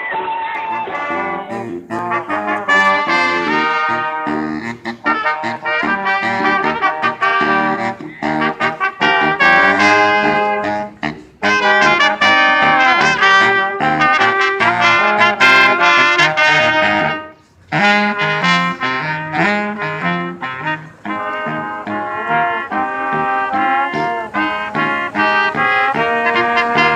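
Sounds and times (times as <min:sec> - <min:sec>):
brass horn section playing: 0:00.0 - 0:26.9.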